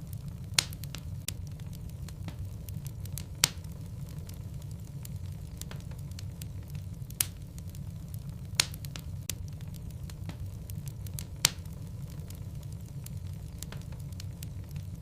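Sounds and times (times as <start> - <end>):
fire crackling: 0.0 - 15.0
fire rumbling: 0.0 - 15.0
wood popping in fire: 0.0 - 15.0.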